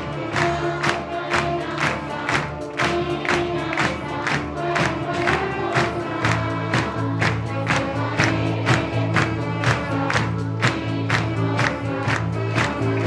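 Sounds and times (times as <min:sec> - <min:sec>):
audience clapping in time: 0:00.0 - 0:13.0
children's choir singing: 0:00.0 - 0:13.0
children's orchestra playing: 0:00.0 - 0:13.0.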